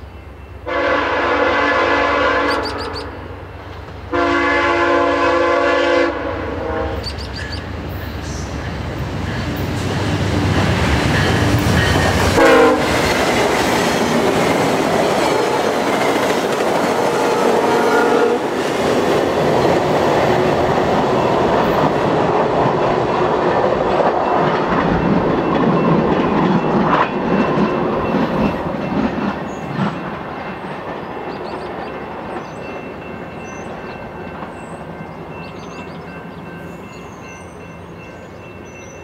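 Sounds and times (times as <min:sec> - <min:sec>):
train wheels clacking on rails: 0:07.0 - 0:39.0.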